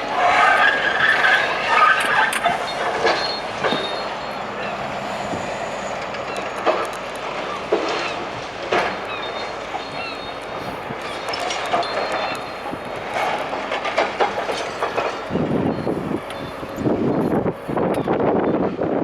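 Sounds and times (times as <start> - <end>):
concrete and metal crunching: 0.0 - 17.9
short metal squeals: 0.0 - 18.0.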